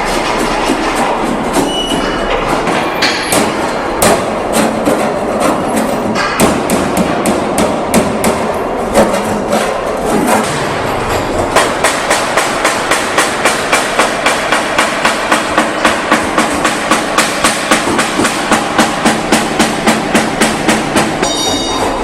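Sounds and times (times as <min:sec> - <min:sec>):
hammer strikes: 0:00.0 - 0:22.0
workshop noise: 0:00.0 - 0:22.0.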